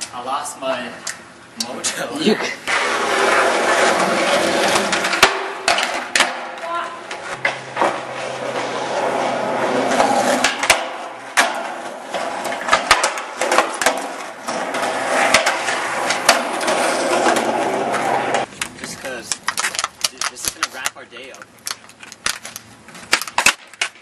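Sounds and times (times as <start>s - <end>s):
skateboard wheels rolling: 2.6s - 24.0s
skateboard clacking on ground: 4.6s - 24.0s.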